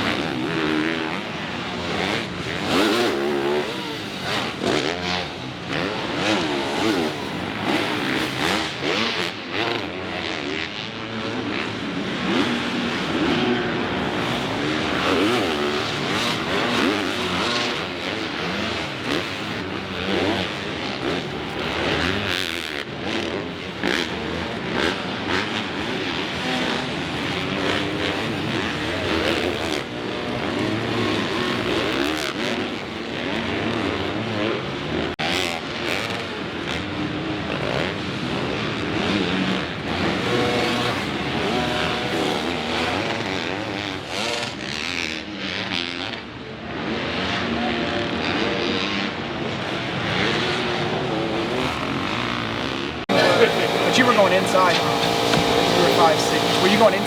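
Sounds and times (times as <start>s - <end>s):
dirt bike engines revving: 0.0s - 37.2s, 37.8s - 57.0s.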